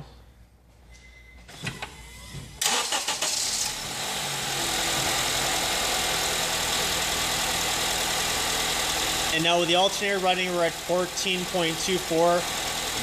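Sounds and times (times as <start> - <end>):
car engine starting and idling: 1.6 - 13.0.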